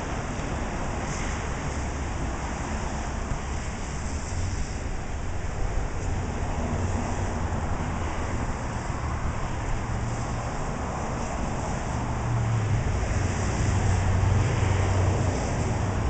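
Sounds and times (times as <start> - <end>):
steady rain: 0.0 - 16.0
wind noise: 0.0 - 16.0.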